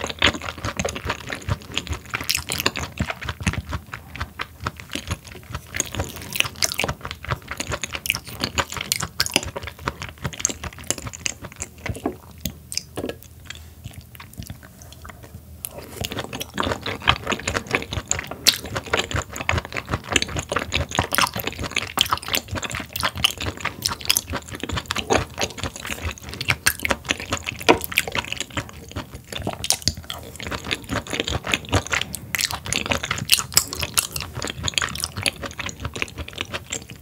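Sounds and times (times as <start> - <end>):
wet chewing mouth clicks: 0.0 - 37.0.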